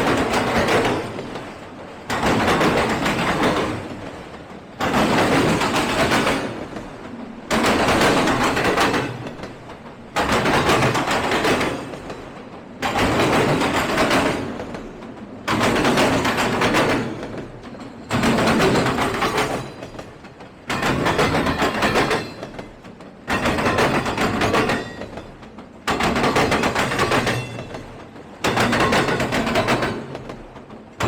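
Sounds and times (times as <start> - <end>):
train wheels clattering over track: 0.0 - 31.0.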